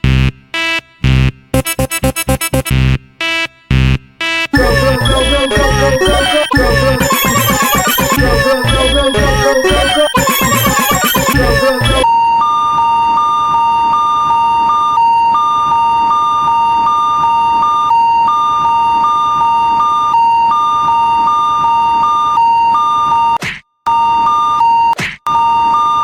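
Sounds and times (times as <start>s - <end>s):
electronic crossing alarm tones: 0.0s - 26.0s.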